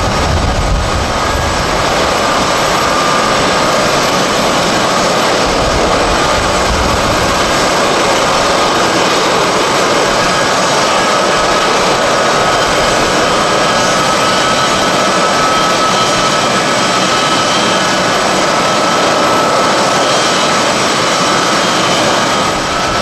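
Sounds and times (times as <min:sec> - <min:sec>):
jet engines roaring with whine: 0:00.0 - 0:23.0.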